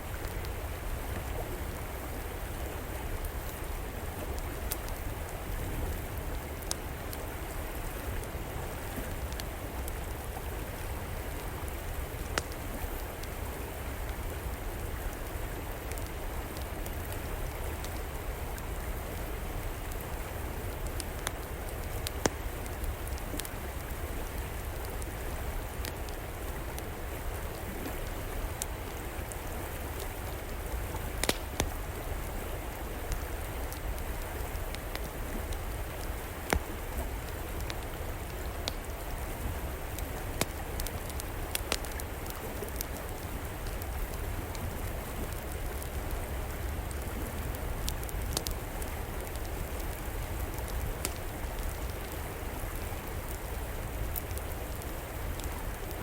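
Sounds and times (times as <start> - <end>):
flowing river water: 0.0 - 56.0
wood fire crackling and popping: 3.0 - 56.0.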